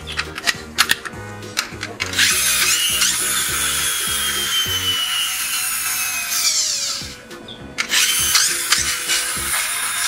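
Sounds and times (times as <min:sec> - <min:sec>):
background music with low beat: 0:00.0 - 0:10.0.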